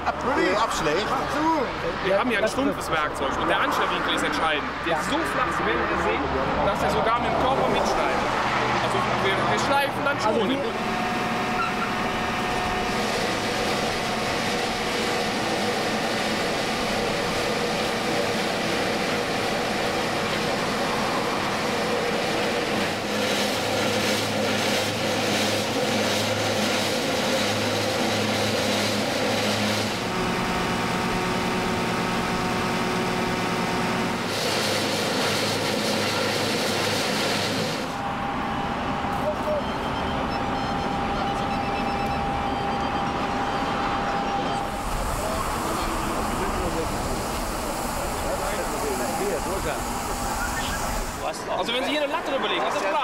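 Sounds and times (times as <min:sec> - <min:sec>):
concrete milling machine running: 0:00.0 - 0:53.0.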